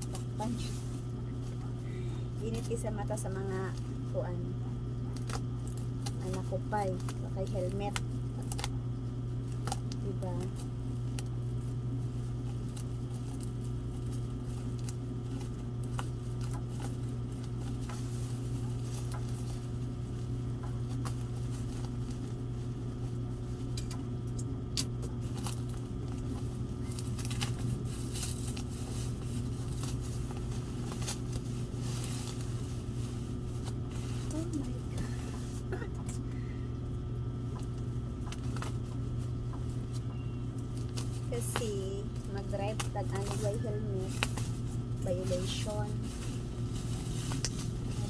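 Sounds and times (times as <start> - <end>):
steady low hum: 0.0 - 48.0
hands rustling parcel packaging: 4.8 - 36.4, 37.3 - 48.0.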